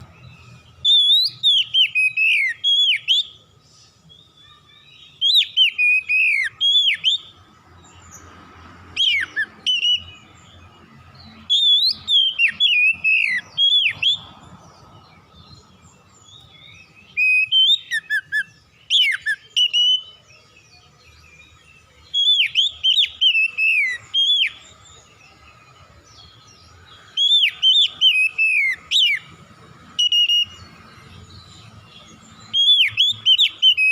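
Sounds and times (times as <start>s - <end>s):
bird singing whistled notes: 0.0s - 33.9s.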